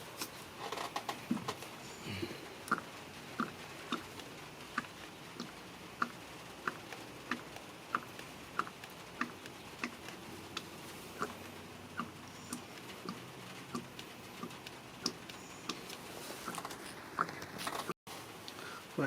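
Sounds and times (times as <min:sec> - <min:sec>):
oil dripping: 0:00.0 - 0:18.8.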